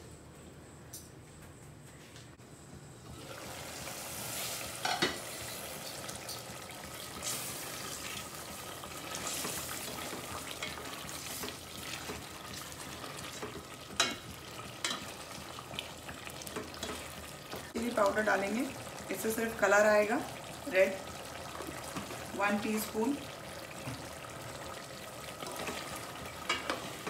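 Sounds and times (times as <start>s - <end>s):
food sizzling in pot: 3.0s - 27.0s.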